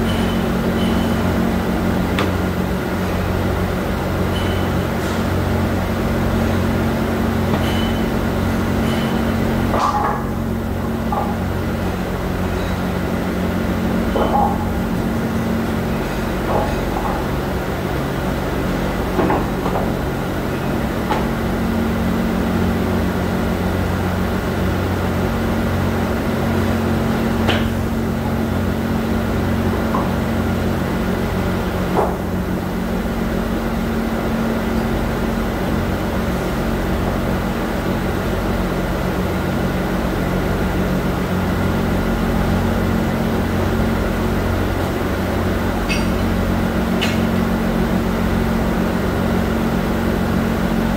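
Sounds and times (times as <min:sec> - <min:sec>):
factory machinery humming: 0:00.0 - 0:50.9.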